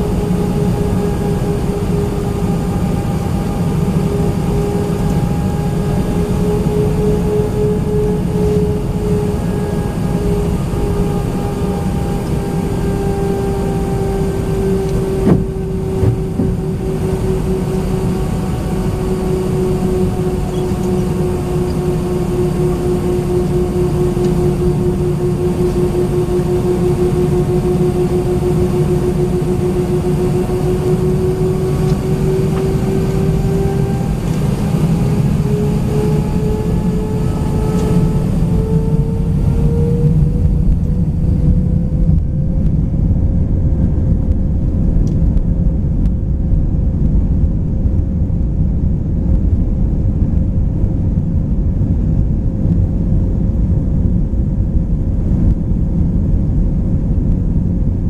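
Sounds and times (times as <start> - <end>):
jet engine cabin rumble: 0.0 - 58.0
jet engine whine: 0.0 - 58.0.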